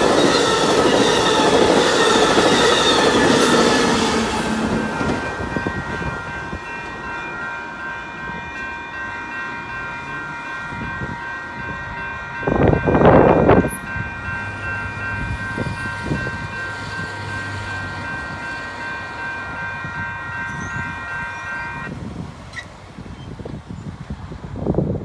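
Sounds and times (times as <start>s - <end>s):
railroad crossing electronic bell ringing: 0.0s - 22.7s.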